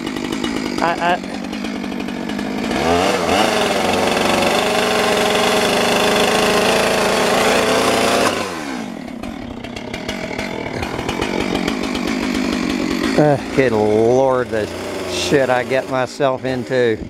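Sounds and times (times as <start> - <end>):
chainsaw engine revving and idling: 0.0 - 17.0.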